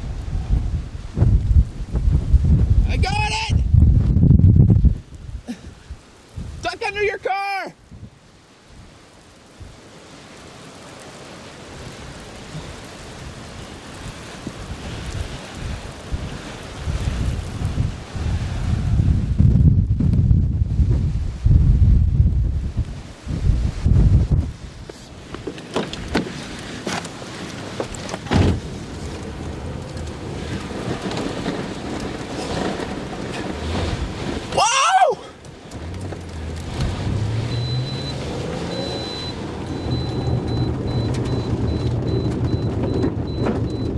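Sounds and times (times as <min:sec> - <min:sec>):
wind and rain hiss: 0:00.0 - 0:43.9
wind gusts buffeting microphone: 0:00.0 - 0:43.9.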